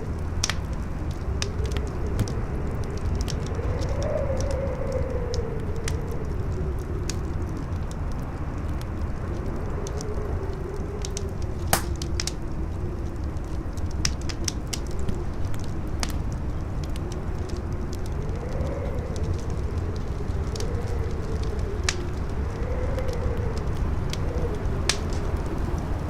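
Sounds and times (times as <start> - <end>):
fire crackling and popping: 0.0 - 26.0
wind howling: 0.0 - 26.0.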